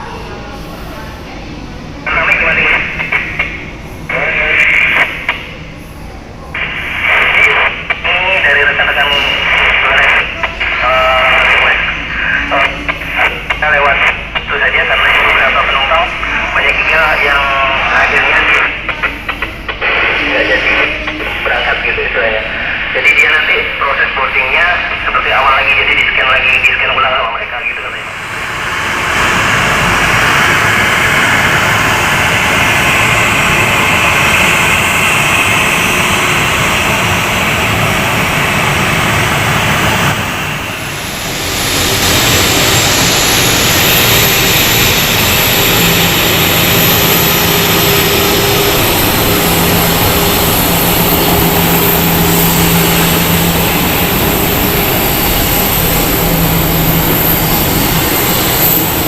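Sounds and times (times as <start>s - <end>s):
airliner engines roaring: 0.0s - 59.0s
high whine: 0.0s - 59.0s.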